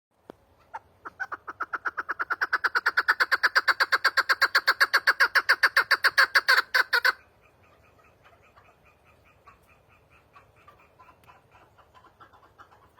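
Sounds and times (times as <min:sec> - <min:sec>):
soft clucks: 0:00.2 - 0:12.9
partridge chuck call: 0:00.6 - 0:12.9.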